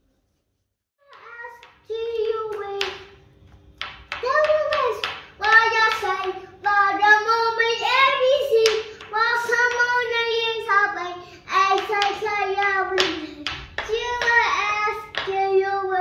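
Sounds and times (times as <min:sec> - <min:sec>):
girl singing in a high voice: 0:01.0 - 0:03.2, 0:04.2 - 0:16.0.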